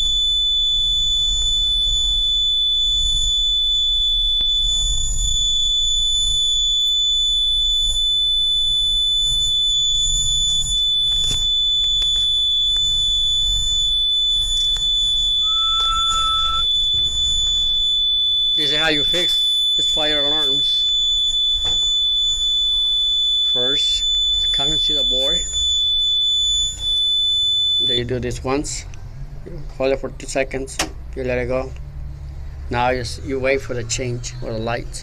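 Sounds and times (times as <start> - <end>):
alarm panel buzzer tone: 0.0 - 28.6.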